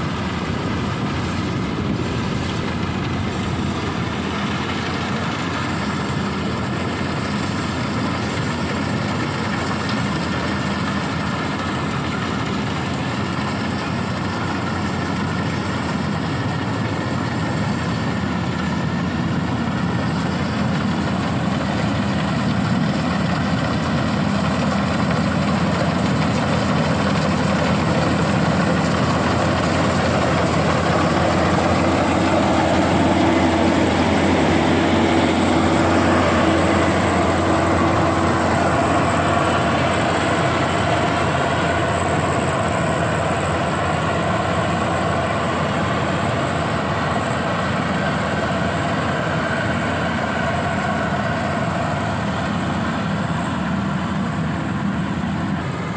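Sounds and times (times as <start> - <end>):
harvester engine drone: 0.0 - 55.9.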